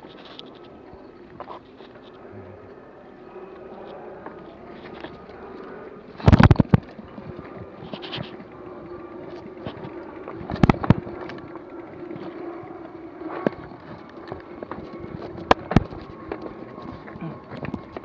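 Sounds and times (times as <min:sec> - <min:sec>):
bike tyres rolling and rattling: 0:00.0 - 0:18.0.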